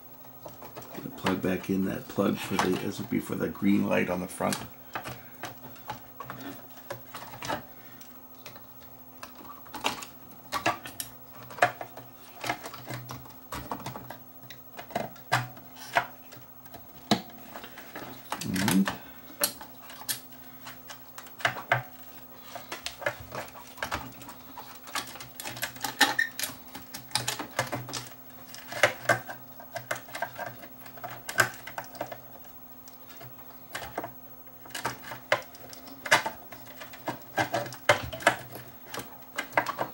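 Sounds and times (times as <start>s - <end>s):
faint low hum: 0.0s - 39.9s
parts clicking and clattering: 0.4s - 39.9s.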